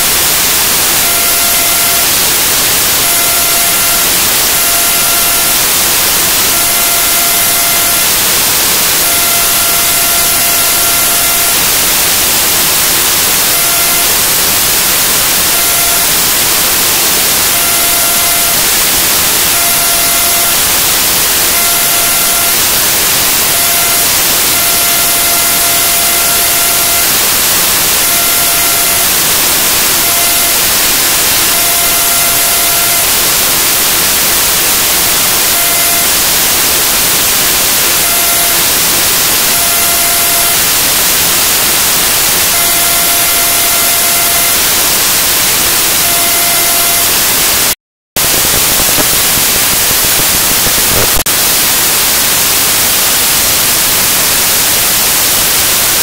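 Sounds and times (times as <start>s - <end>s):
thin buzzing tone: 0.0s - 47.4s
static hiss: 0.0s - 56.0s.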